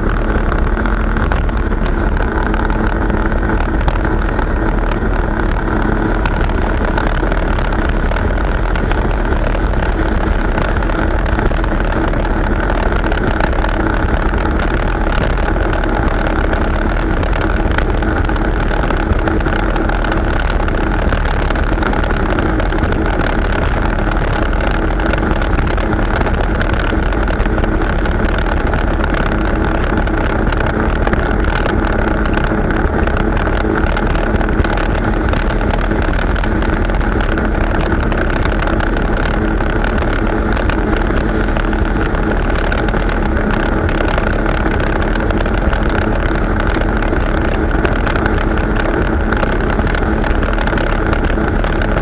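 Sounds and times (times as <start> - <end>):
jet ski engine running: 0.0 - 52.0.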